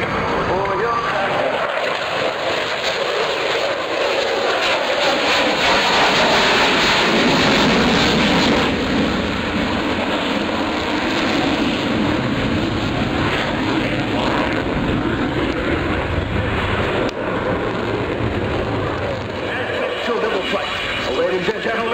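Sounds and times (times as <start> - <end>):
jet flying past: 0.0 - 21.9.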